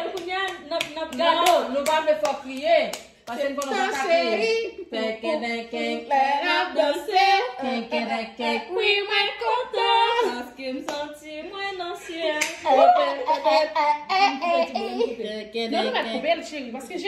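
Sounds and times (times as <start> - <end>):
women singing unaccompanied: 0.0 - 17.0.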